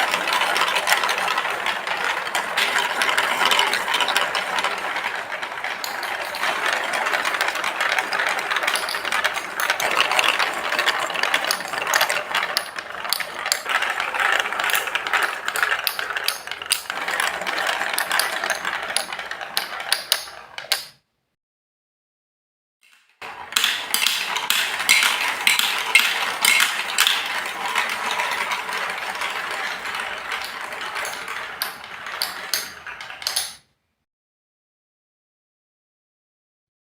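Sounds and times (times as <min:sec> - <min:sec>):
marbles rolling on plastic track: 0:00.0 - 0:21.0, 0:22.9 - 0:33.8.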